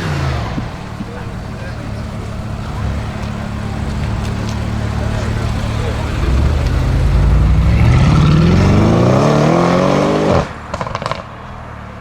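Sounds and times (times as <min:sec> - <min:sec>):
exhaust pops: 0:00.0 - 0:09.2, 0:10.2 - 0:11.3
car engine accelerating: 0:00.0 - 0:11.8.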